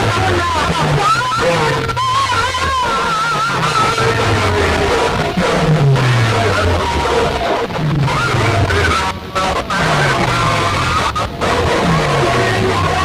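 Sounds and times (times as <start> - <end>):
loud music with sliding bass: 0.0 - 13.0.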